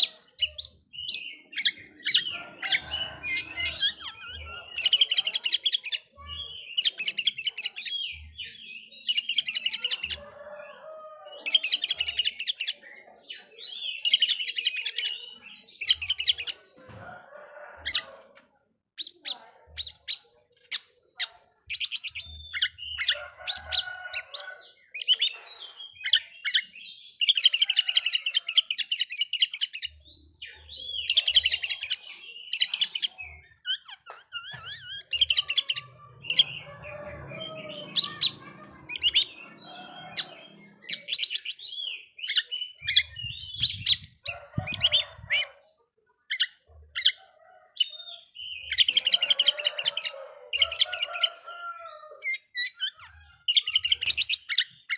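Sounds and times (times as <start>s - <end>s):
bird singing chattering phrases: 0.0s - 16.8s, 19.0s - 51.5s, 52.2s - 54.9s.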